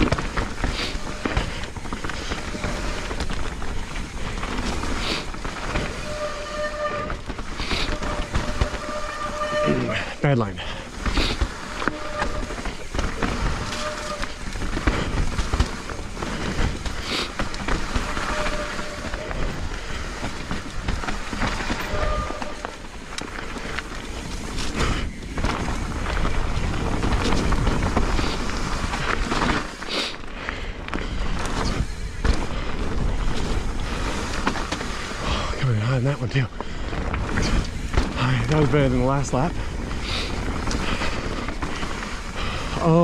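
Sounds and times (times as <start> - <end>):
brake squeals: 0.0 - 30.3, 30.9 - 43.0
bike rattling on bumps: 0.0 - 43.0
bike tyres churning through mud: 0.0 - 43.0.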